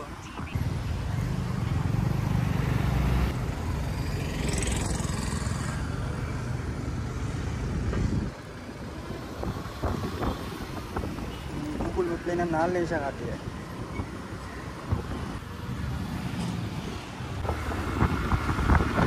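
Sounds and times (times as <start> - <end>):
road and traffic noise: 0.0 - 19.0.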